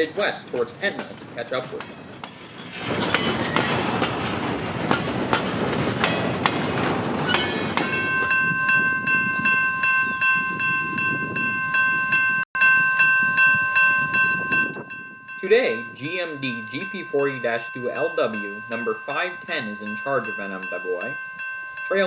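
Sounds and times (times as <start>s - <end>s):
freight train rumbling: 0.0s - 22.0s
rail clicks: 0.0s - 22.0s.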